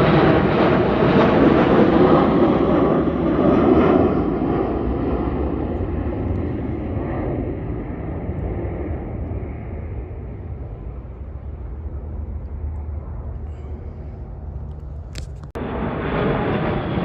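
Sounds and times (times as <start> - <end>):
plane flying past: 0.0 - 17.0.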